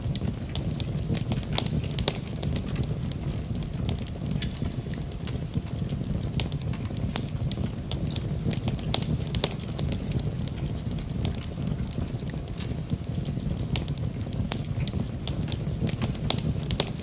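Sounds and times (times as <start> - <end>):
burning logs crackling and popping: 0.0 - 17.0
low rumble of flames: 0.0 - 17.0.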